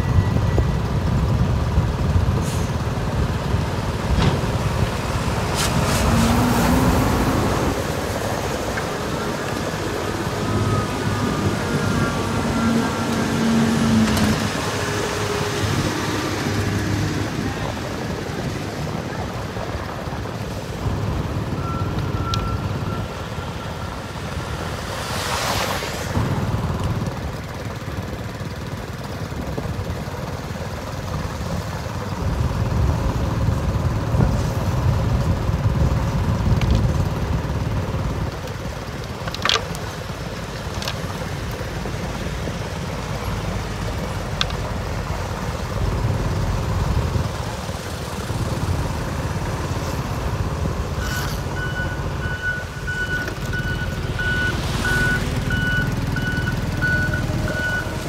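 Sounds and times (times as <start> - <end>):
road roller engines rumbling: 0.0 - 58.0.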